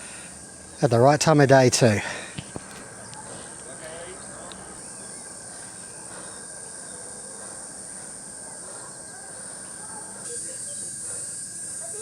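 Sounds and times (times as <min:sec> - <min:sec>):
faint distant voices: 0:00.0 - 0:12.0
insects droning: 0:00.0 - 0:12.0.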